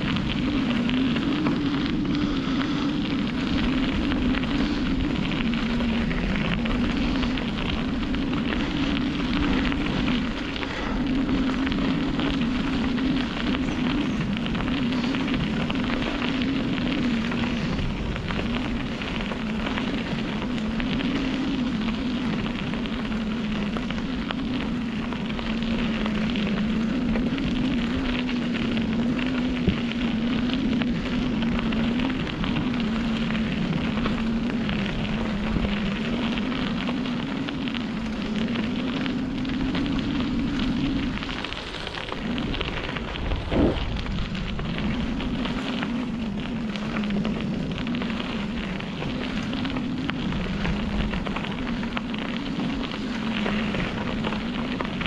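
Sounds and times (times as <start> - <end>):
bicycle tyres rushing: 0.0 - 55.0
low wavering hum: 0.0 - 55.0.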